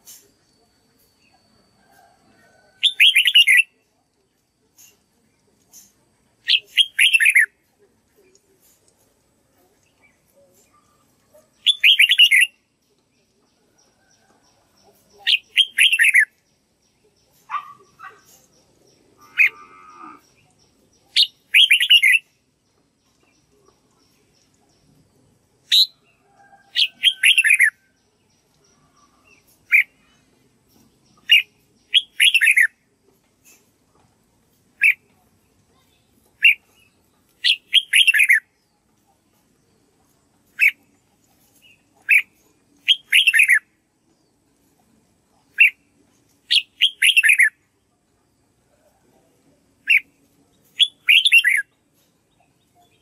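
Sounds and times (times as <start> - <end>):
bird singing chirping phrases: 2.8 - 4.1, 4.7 - 8.6, 9.6 - 26.2, 26.8 - 32.8, 34.7 - 44.5, 45.3 - 53.0.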